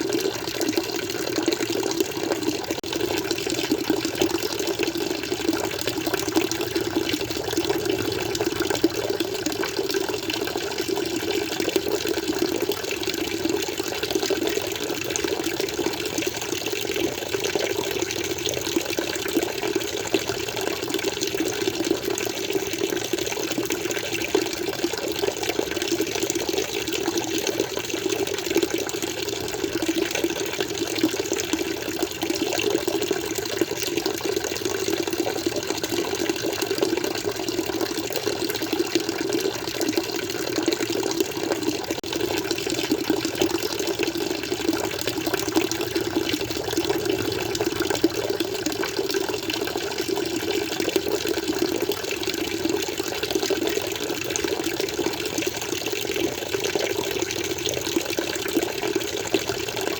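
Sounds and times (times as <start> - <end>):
aquarium water flowing: 0.0 - 59.9.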